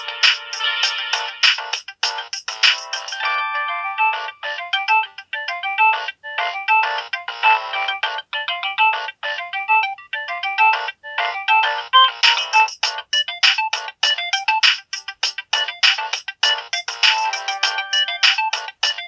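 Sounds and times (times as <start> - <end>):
polyphonic phone ringtone: 0.0 - 19.0.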